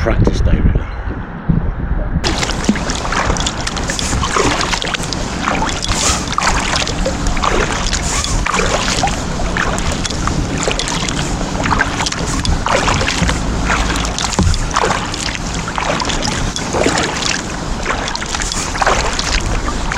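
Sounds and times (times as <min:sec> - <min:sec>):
steady low rumble: 0:00.0 - 0:19.9
kayak paddles splashing: 0:02.2 - 0:19.9
water dripping from blades: 0:02.2 - 0:19.9.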